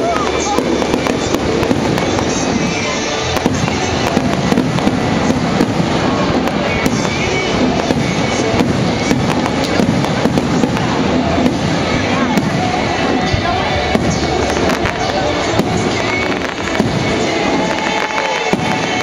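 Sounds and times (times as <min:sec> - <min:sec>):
fireworks cracking and popping: 0:00.0 - 0:19.0
music playing: 0:00.0 - 0:19.0.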